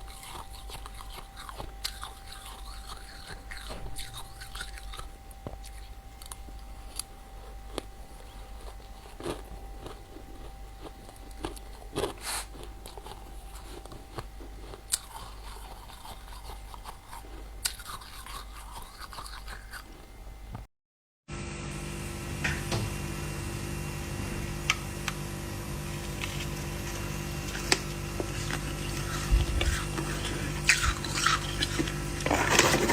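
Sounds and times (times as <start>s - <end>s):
person chewing ice crunches: 0.0s - 20.6s, 26.0s - 32.9s
low steady hum: 0.0s - 20.7s, 21.3s - 32.9s.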